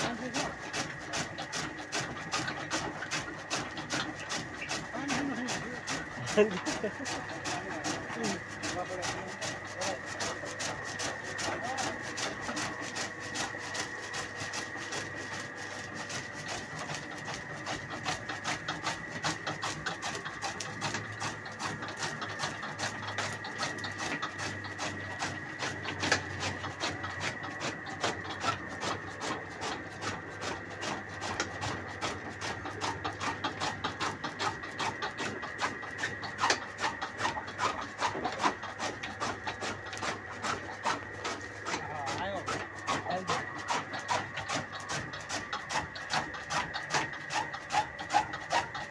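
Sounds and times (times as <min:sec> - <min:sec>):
chaff cutter running: 0:00.0 - 0:48.9
high machine whine: 0:00.0 - 0:48.9
rapid cutting clicks: 0:00.0 - 0:48.9.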